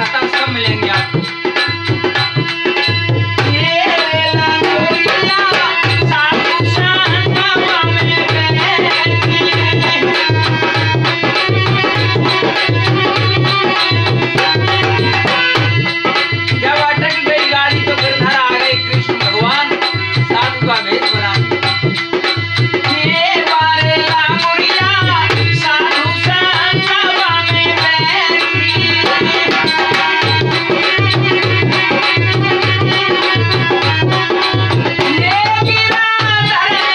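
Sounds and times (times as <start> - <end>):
hand drum rhythm: 0.0 - 36.9
harmonium drone: 0.0 - 36.9
man singing: 0.0 - 36.9.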